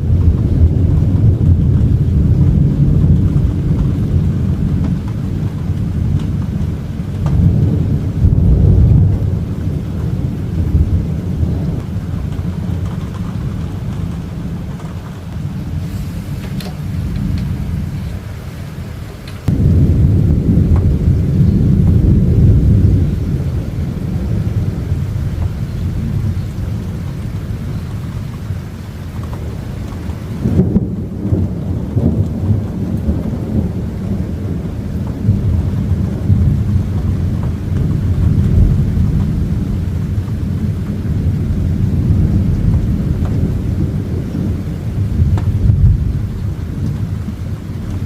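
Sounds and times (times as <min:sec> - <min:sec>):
thunder rumbling: 0:00.0 - 0:48.0.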